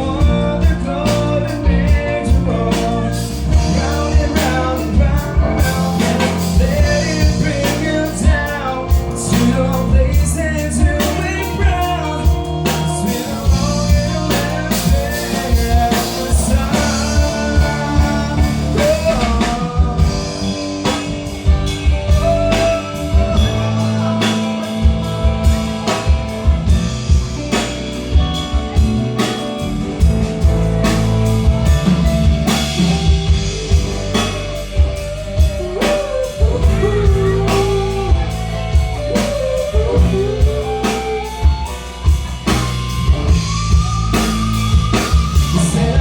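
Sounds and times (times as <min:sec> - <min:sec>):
drum beat and bass: 0:00.0 - 0:46.0
lead guitar melody: 0:00.0 - 0:46.0.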